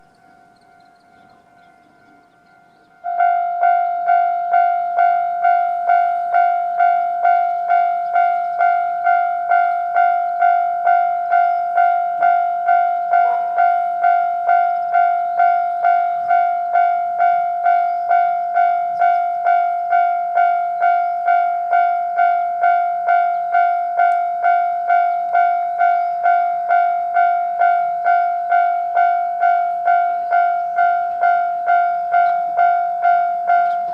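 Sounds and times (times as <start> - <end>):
level crossing alarm dinging: 0.0 - 33.9.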